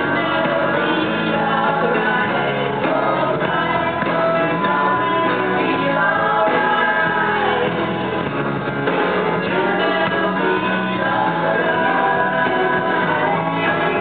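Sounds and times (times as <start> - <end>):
person singing: 0.0 - 8.3, 9.2 - 14.0
live rock band playing: 0.0 - 14.0.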